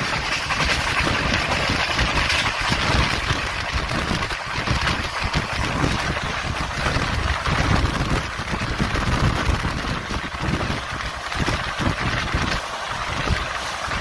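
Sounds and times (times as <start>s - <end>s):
rush of air noise: 0.0s - 14.0s.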